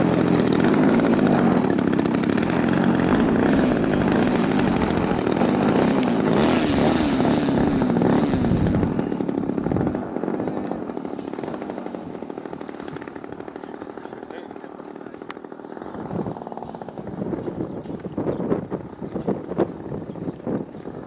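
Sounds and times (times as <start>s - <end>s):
model plane engine running: 0.0s - 21.0s.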